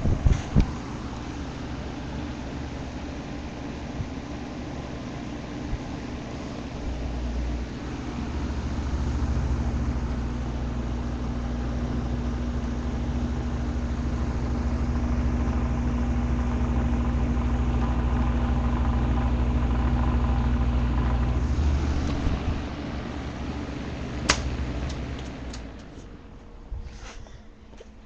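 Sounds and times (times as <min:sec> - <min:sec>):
box fan motor humming: 0:00.0 - 0:26.9
air rushing from fan blades: 0:00.0 - 0:27.7.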